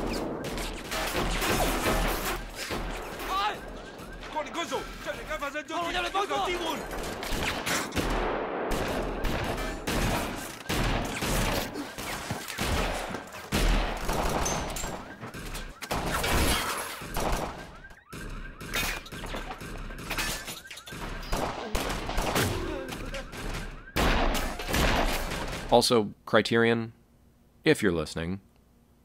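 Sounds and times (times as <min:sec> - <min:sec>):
rapid gunshots: 0:00.0 - 0:25.7.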